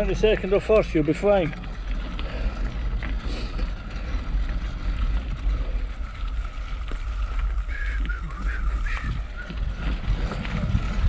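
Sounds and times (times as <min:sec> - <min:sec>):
bike tyres rumbling on dirt: 0:00.0 - 0:11.0
handlebars shaking: 0:00.0 - 0:11.0.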